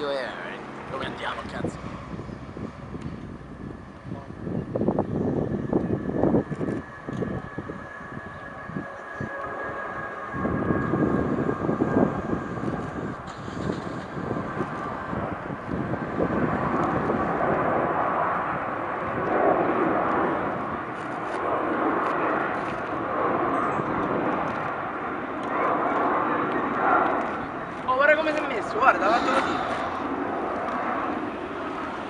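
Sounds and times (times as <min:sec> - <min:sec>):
jet engine rushing: 0:00.0 - 0:32.0.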